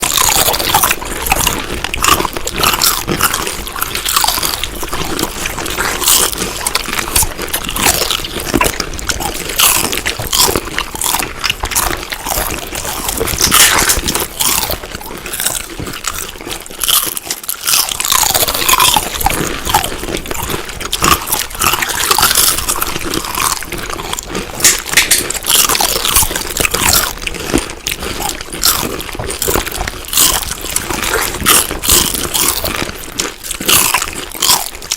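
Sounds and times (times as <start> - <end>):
crunchy chewing of food: 0.0 - 34.9.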